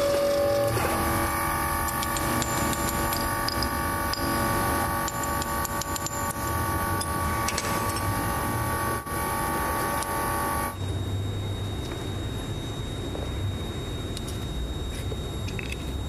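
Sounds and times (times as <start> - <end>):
workshop machine hum: 0.0 - 16.0.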